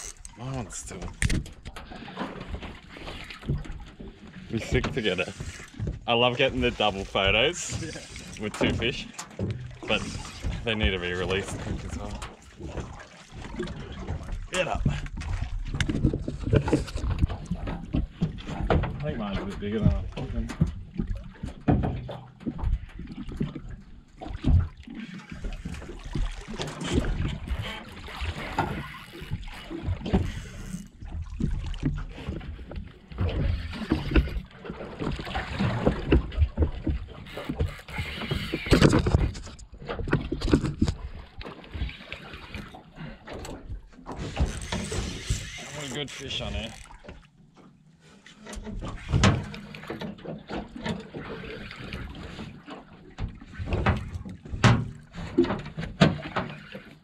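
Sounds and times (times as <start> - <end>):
knocks and thumps on a boat: 0.0 - 57.0
water noise: 0.0 - 57.0
wind: 0.0 - 57.0.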